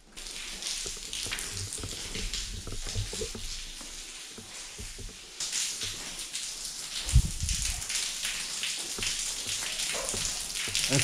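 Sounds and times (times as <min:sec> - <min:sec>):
rain pattering on building: 0:00.0 - 0:11.0.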